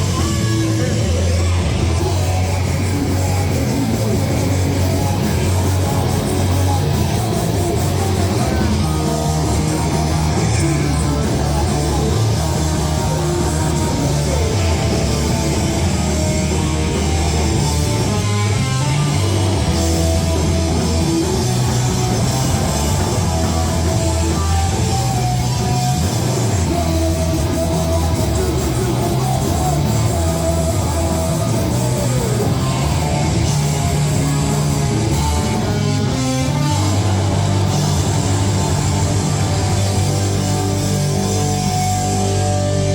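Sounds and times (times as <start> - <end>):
punk rock band playing live: 0.0 - 42.9.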